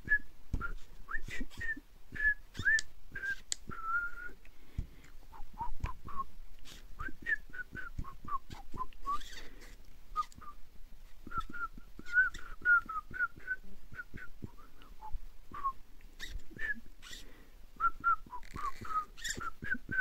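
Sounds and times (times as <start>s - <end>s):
person whistling: 0.0s - 4.4s, 5.3s - 9.4s, 10.2s - 10.6s, 11.3s - 17.2s, 17.8s - 20.0s.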